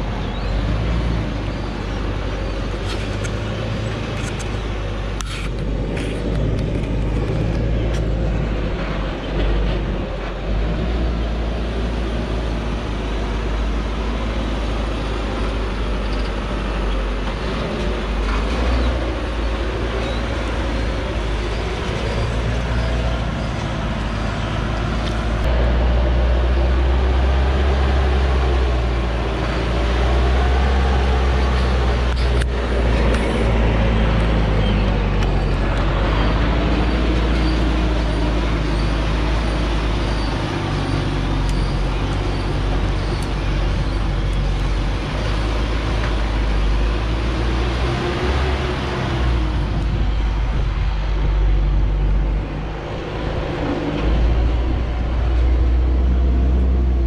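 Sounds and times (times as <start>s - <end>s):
truck engine running hard: 0.0s - 57.0s.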